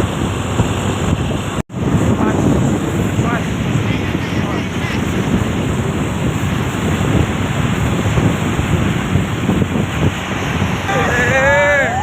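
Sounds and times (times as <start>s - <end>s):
low road traffic rumble: 0.0s - 12.0s
wind buffeting microphone: 0.0s - 12.0s.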